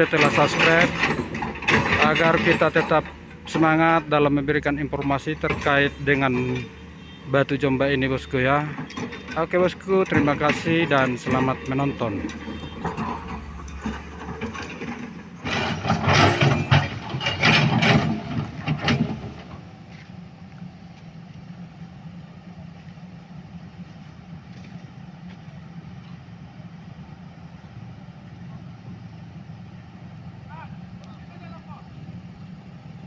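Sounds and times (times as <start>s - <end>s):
large engine humming: 0.0s - 33.0s.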